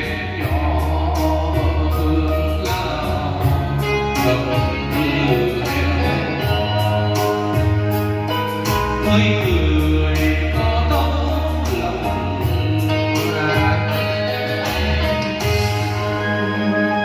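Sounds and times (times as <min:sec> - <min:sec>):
karaoke backing track: 0:00.0 - 0:17.0
man singing into a microphone: 0:00.0 - 0:17.0.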